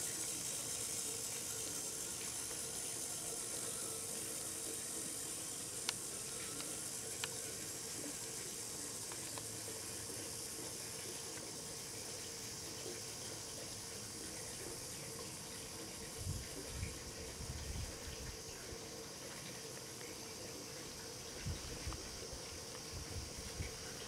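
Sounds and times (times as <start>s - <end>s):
even hiss: 0.0s - 24.0s
faint model motor hum: 0.0s - 24.0s.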